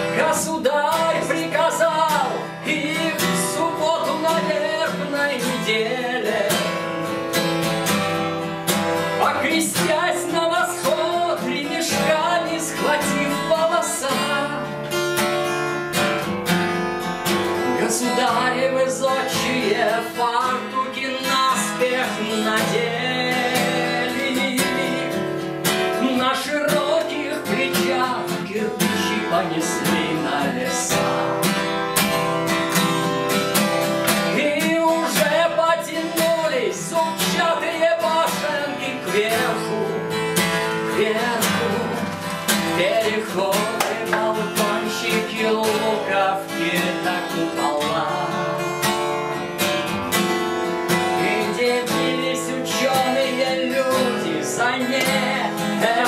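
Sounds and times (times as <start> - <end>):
man singing: 0.0 - 15.2, 17.2 - 56.0
acoustic guitar strumming: 0.0 - 56.0.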